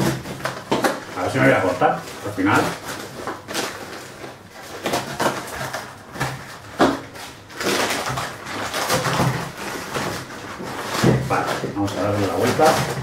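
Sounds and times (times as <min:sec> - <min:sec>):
paper and plastic crinkling and ripping: 0:00.0 - 0:13.0.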